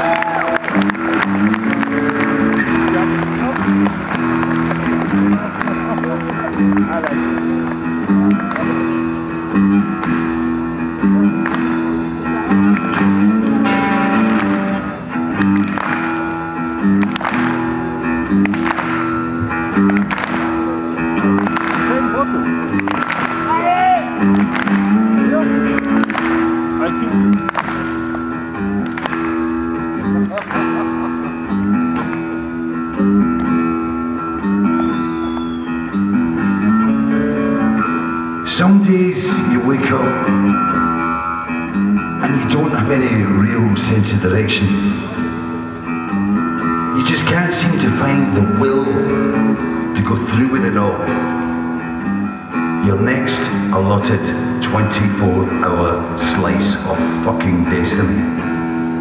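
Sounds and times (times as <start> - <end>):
held bass line: 0.0 - 59.0
live rock band playing: 0.0 - 59.0.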